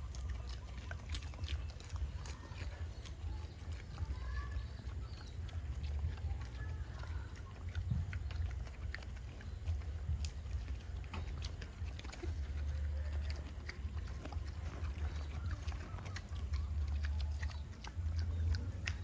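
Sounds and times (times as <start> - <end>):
pigs crunching and chewing: 0.0 - 19.0
steady low rumble: 0.0 - 19.0.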